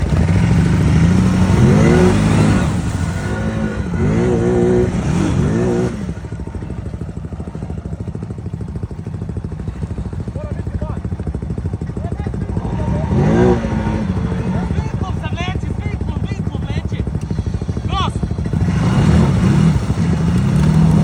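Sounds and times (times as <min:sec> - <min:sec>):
atv engine revving and idling: 0:00.0 - 0:21.0.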